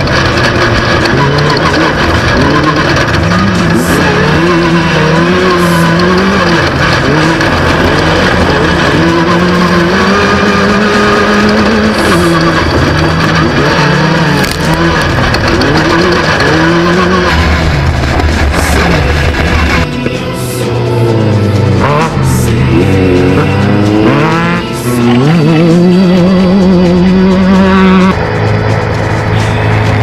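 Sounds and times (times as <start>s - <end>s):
race vehicle engine revving: 0.0s - 30.0s
rush of driving noise: 0.0s - 30.0s.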